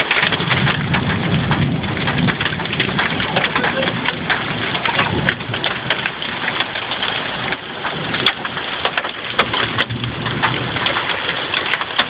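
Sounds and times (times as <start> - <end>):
hailstones pelting hard surfaces: 0.0 - 12.0.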